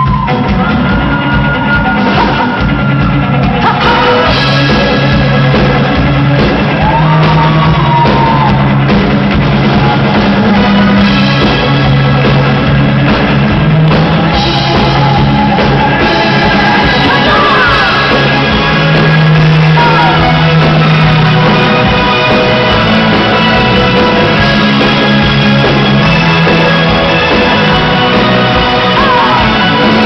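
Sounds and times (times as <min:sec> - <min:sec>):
bass line: 0:00.0 - 0:30.0
drum kit: 0:00.0 - 0:30.0
live rock band playing: 0:00.0 - 0:30.0.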